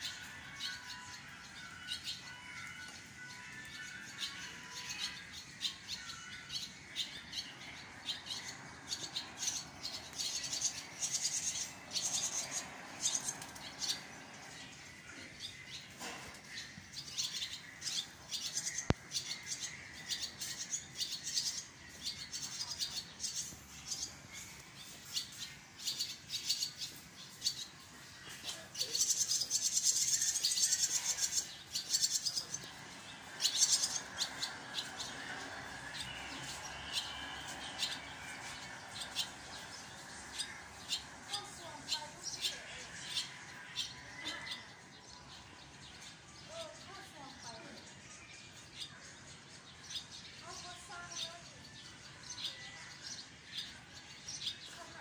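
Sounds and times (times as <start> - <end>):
swallows twittering: 0.0 - 55.0.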